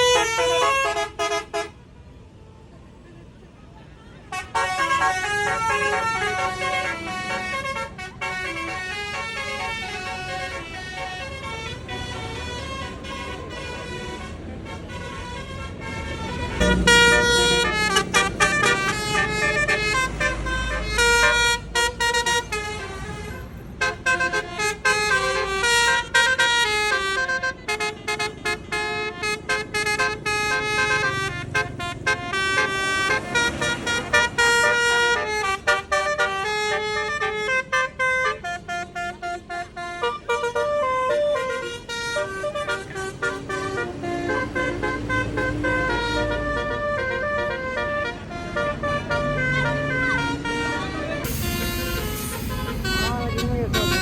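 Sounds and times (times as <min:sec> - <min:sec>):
bus melody horn: 0:00.0 - 0:02.7, 0:04.1 - 0:54.0
bus engine rumbling: 0:00.0 - 0:54.0.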